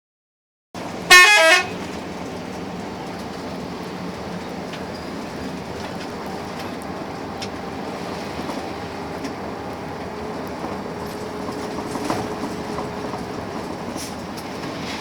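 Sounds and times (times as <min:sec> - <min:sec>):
bus engine and road drone: 0:00.8 - 0:15.0
interior rattles and clicks: 0:01.8 - 0:15.0.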